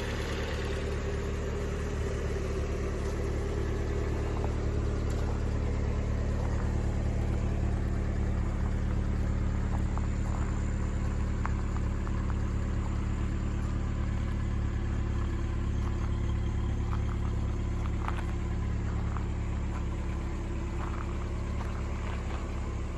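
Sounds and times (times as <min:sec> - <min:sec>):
engine idling: 0:00.0 - 0:22.9.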